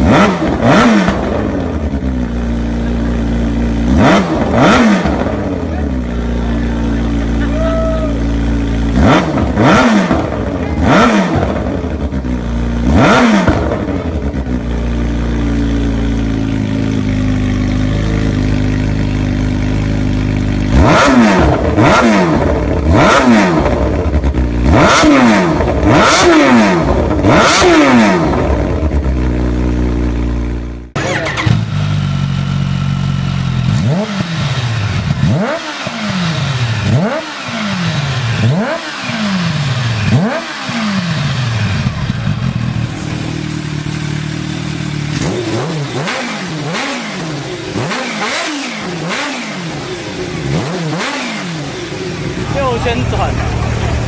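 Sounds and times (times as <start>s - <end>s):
engine idling: 0.0s - 54.0s
motorcycle engine revving: 0.0s - 54.0s.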